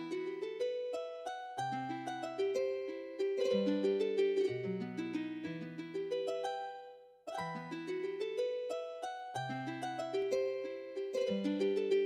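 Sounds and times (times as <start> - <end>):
plucked arpeggio music: 0.0 - 12.0.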